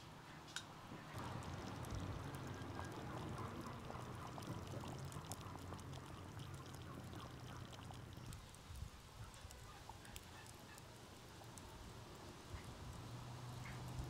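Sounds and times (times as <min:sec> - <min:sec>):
wood fire crackling: 0:00.8 - 0:14.0
broth bubbling in a pot: 0:00.9 - 0:14.0.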